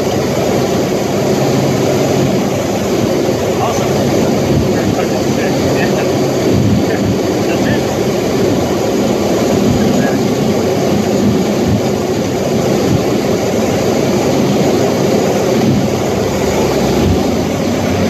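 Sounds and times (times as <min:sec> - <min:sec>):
aircraft engine drone in cabin: 0:00.0 - 0:18.0.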